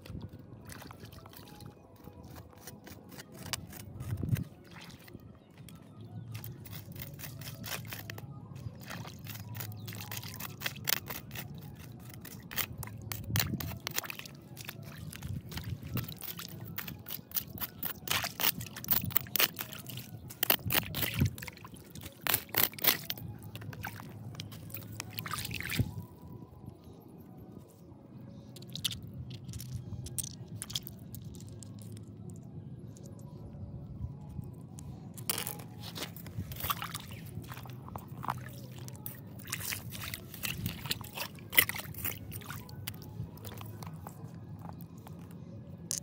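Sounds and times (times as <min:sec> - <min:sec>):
water pouring and trickling: 0:00.0 - 0:26.3, 0:28.6 - 0:32.1, 0:35.2 - 0:45.3
low steady hum: 0:00.0 - 0:46.0.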